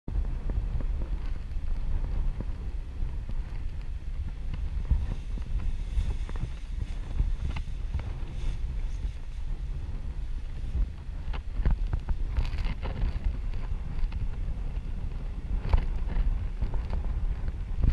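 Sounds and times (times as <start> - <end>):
wind buffeting microphone: 0.1 - 17.9.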